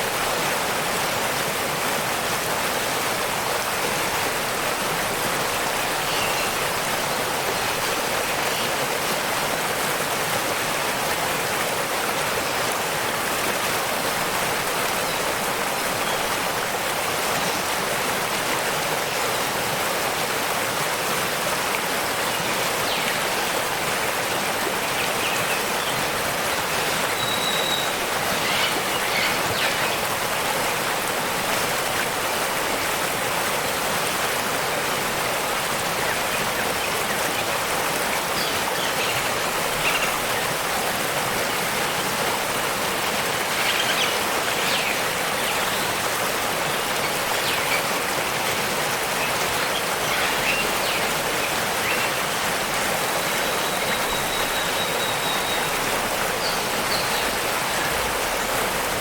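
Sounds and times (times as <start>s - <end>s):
waterfall and rushing stream: 0.0s - 59.0s.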